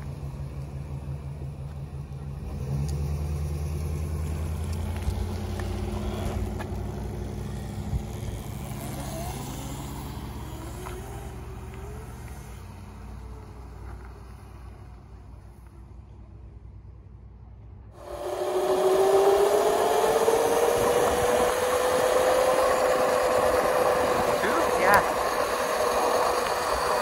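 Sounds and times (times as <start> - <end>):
electric mini bike whine: 0.0 - 15.8, 17.9 - 27.0
motorhome engine driving past: 0.0 - 27.0.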